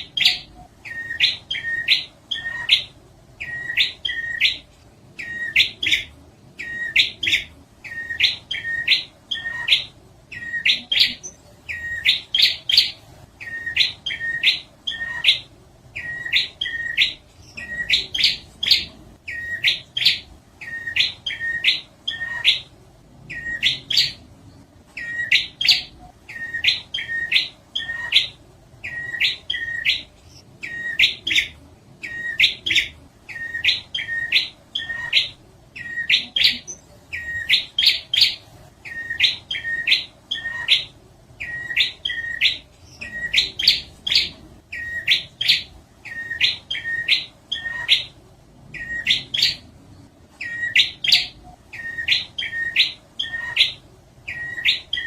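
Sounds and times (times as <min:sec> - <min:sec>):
bird chirping song: 0:00.0 - 0:55.0.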